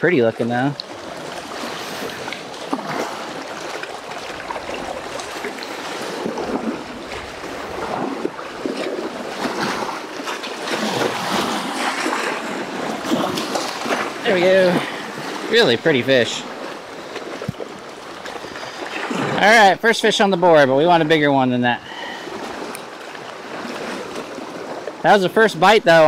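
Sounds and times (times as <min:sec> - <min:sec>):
waves lapping on rocky shore: 0:00.0 - 0:26.0
wind: 0:00.0 - 0:26.0.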